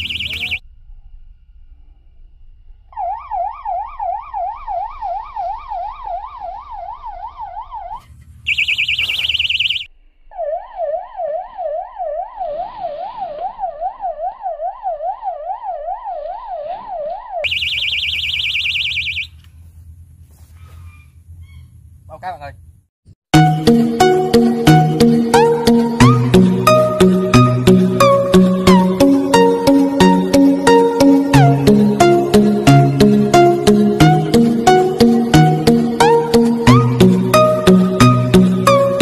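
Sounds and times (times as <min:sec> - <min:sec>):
warbling electronic alarm tone: 0:00.0 - 0:00.8, 0:02.7 - 0:19.4, 0:23.4 - 0:39.0.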